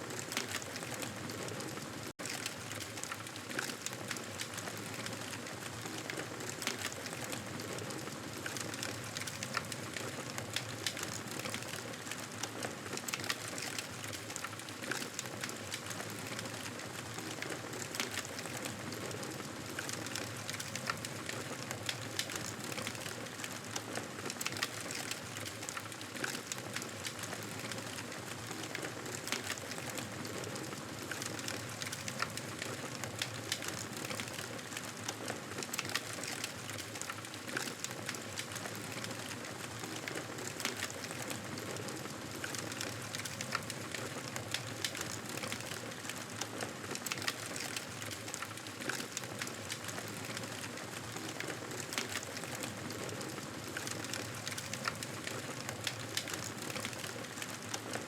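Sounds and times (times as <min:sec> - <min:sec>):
wood fire crackling and hissing: 0:00.0 - 0:58.0.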